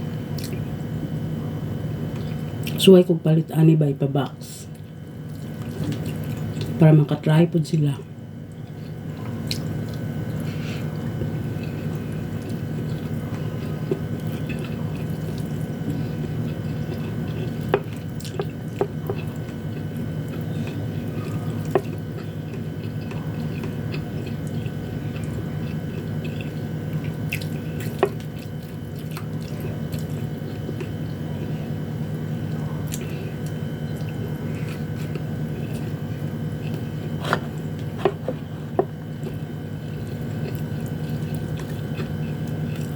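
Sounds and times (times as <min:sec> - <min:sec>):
steady low hum: 0:00.0 - 0:42.9
chewing: 0:00.4 - 0:00.7, 0:02.1 - 0:02.8, 0:04.7 - 0:06.8, 0:08.5 - 0:31.8, 0:32.4 - 0:42.9.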